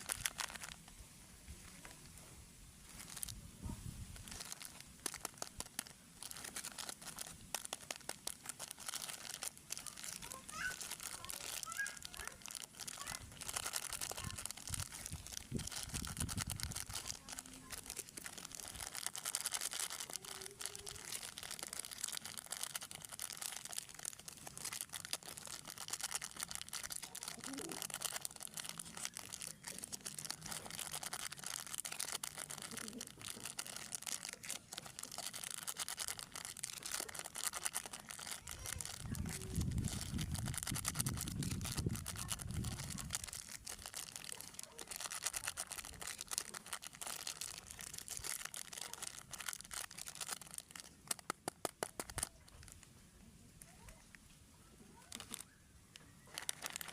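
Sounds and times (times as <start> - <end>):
plastic wrappers crinkling: 0.0 - 1.0, 2.8 - 53.0, 54.9 - 56.9.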